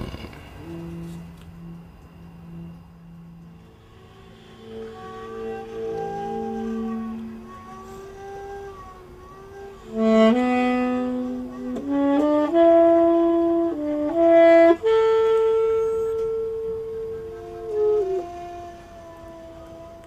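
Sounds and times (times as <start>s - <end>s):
slow wind instrument melody: 0.0s - 20.0s.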